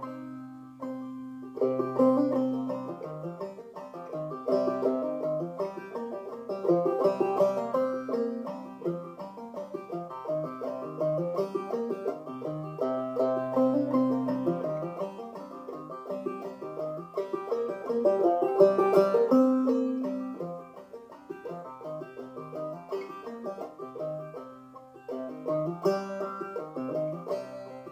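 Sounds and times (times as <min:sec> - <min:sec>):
banjo melody: 0:00.0 - 0:27.9.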